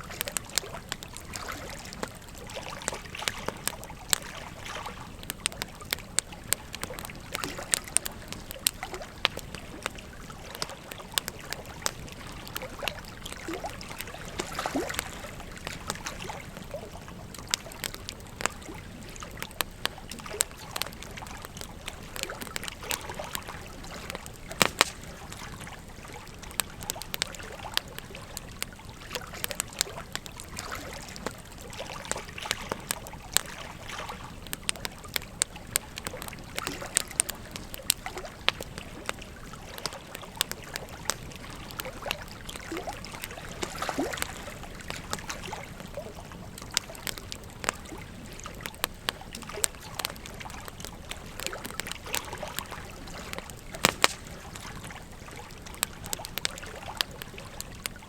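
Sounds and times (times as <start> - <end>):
flowing river: 0.0 - 58.0
wood fire crackling: 0.0 - 58.0.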